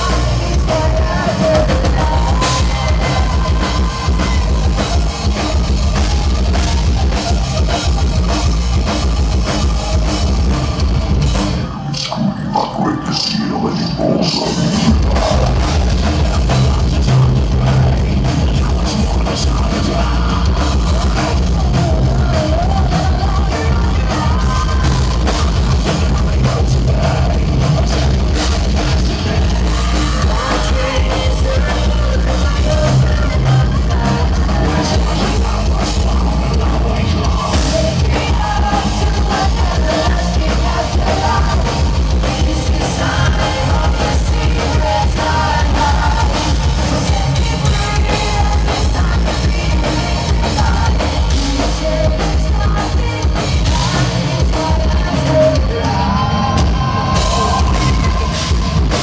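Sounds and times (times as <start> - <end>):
heavy metal band playing: 0.0 - 12.1, 13.8 - 59.0
person singing: 0.0 - 59.0.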